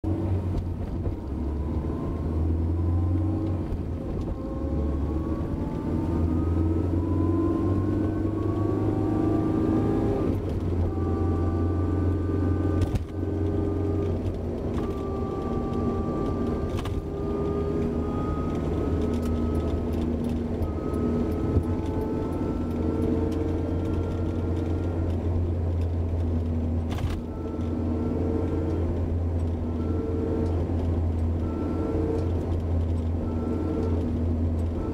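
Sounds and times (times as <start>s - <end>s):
engine and road rumble: 0.0s - 34.9s.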